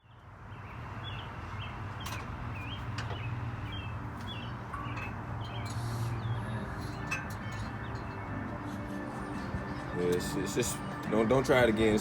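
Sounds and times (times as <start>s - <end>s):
small birds chirping: 0.0s - 10.3s.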